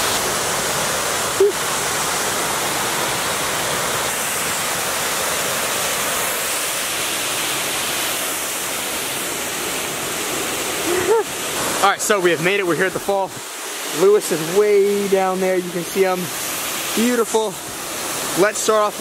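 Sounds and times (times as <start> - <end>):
waterfall and creek rushing: 0.0 - 19.0.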